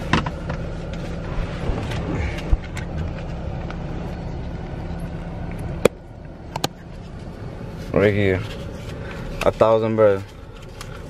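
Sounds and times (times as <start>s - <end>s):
car rumble from inside cabin: 0.0s - 11.0s.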